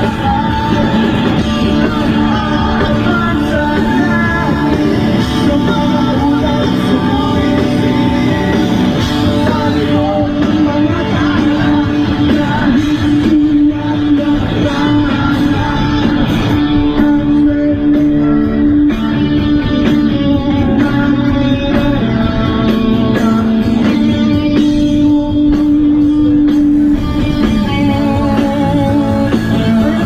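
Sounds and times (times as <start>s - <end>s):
rock song with singing and guitar: 0.0s - 30.0s.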